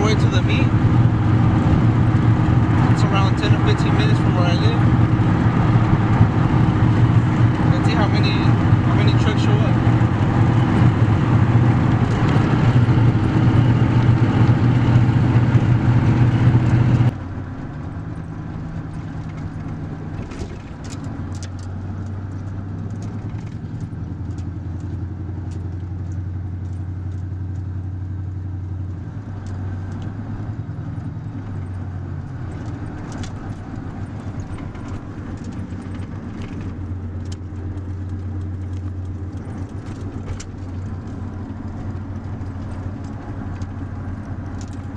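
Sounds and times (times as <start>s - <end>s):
road noise: 0.0s - 44.9s
truck engine hum: 0.0s - 44.9s.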